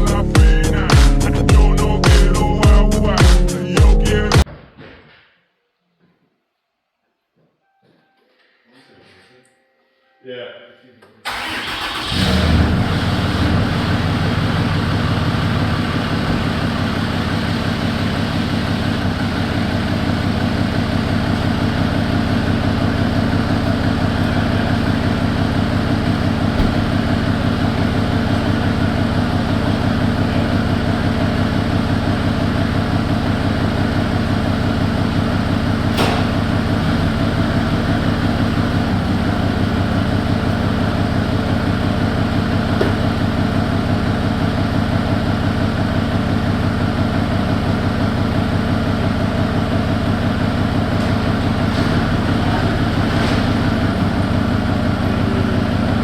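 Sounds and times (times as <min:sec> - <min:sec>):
diesel engine starting and idling: 0:00.0 - 0:04.4, 0:11.2 - 0:56.0.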